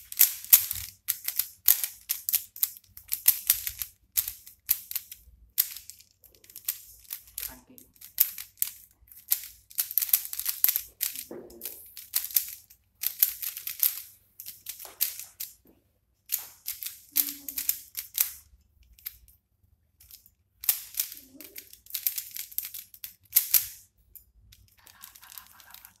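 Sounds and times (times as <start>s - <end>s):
puzzle cube clicking: 0.0s - 15.6s, 16.3s - 19.3s, 20.0s - 23.9s, 24.5s - 26.0s.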